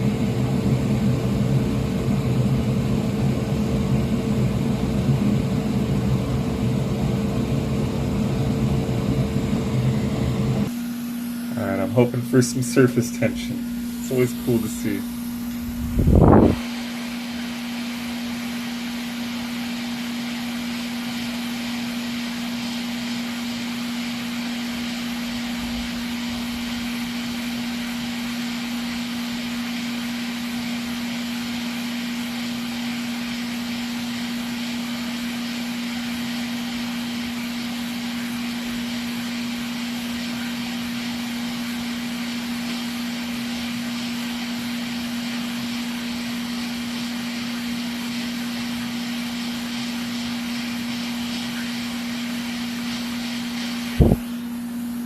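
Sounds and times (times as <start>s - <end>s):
hot air station blowing: 0.0s - 55.0s.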